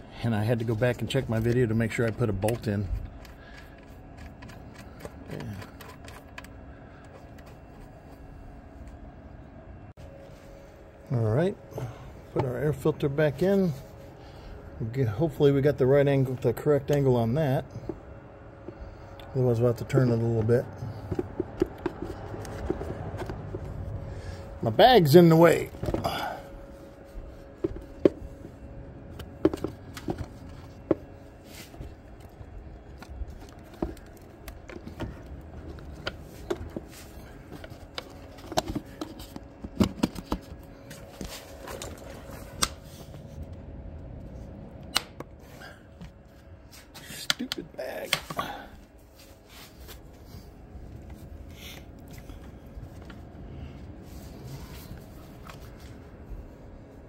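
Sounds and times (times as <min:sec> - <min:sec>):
rustling and handling: 0:00.5 - 0:11.0, 0:17.7 - 0:44.7, 0:45.4 - 0:57.0.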